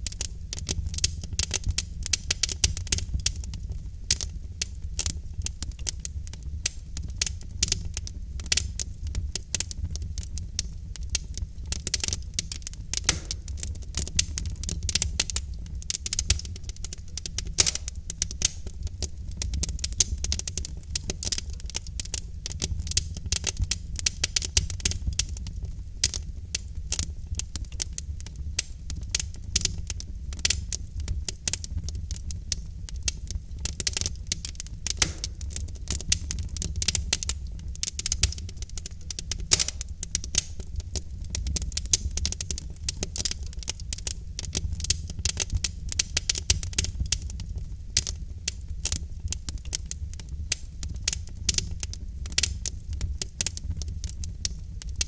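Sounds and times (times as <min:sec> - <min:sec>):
log fire snaps and pops: 0:00.0 - 0:55.0
low rumble of flames: 0:00.0 - 0:55.0.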